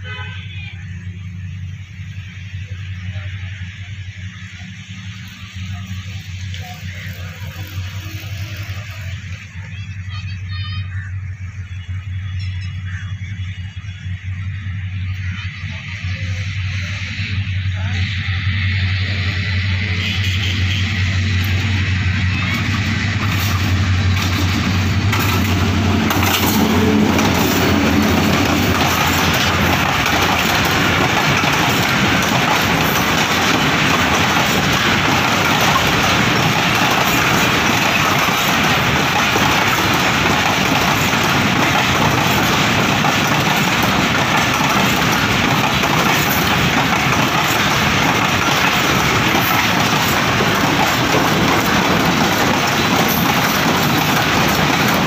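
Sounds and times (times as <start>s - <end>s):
diesel engine drone: 0.0s - 55.0s
train wheels rolling on rails: 0.0s - 55.0s.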